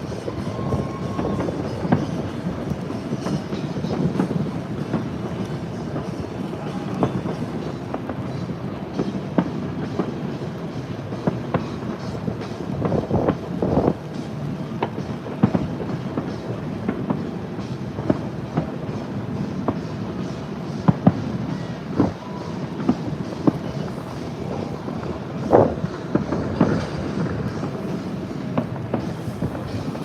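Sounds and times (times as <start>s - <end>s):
distant fireworks popping and crackling: 0.0s - 30.0s
rain hiss: 0.0s - 30.0s.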